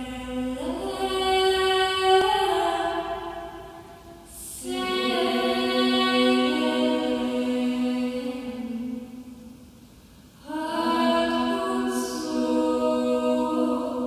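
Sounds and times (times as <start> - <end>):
women singing a cappella: 0.0 - 9.6, 10.4 - 14.0.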